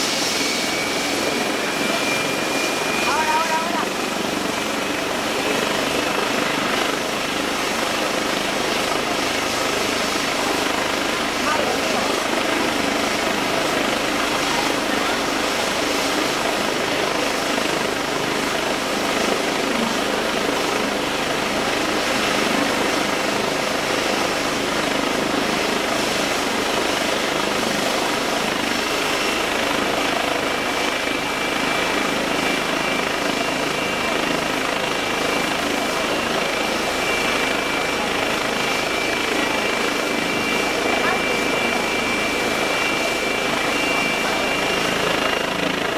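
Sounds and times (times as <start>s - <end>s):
helicopter rotor and turbine: 0.0s - 45.9s
high turbine whine: 0.0s - 45.9s.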